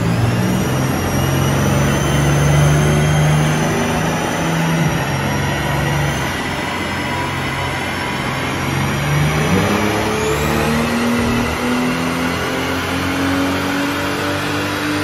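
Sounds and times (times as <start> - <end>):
car engine running on a dyno: 0.0 - 15.0.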